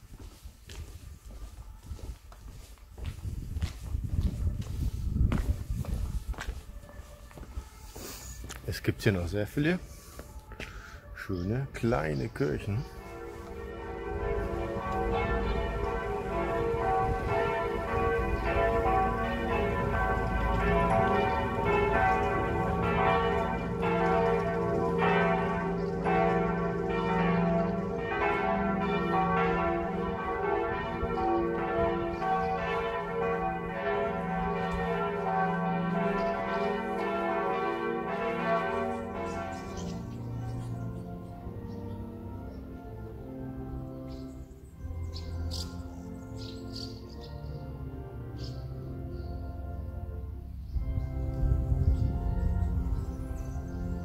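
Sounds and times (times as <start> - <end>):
church bells pealing: 4.4 - 54.0.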